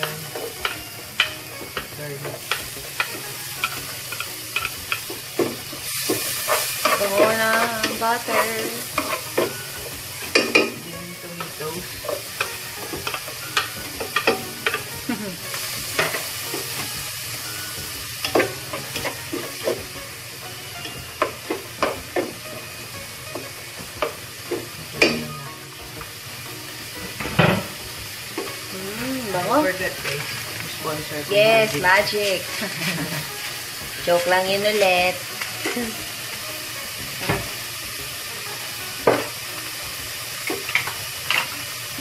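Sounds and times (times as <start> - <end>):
onion sizzling in frying pan: 0.0 - 42.0.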